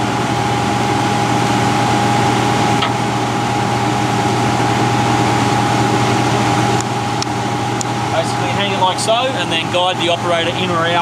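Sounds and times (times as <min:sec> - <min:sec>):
diesel engine idling: 0:00.0 - 0:11.0
steady whine: 0:00.0 - 0:11.0.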